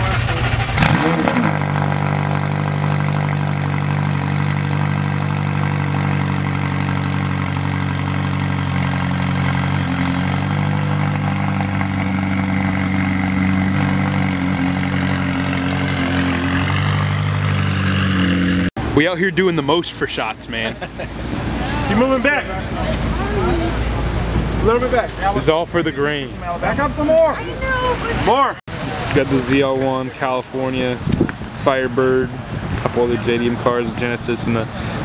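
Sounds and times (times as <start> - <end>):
car engine idling: 0.0 - 28.1.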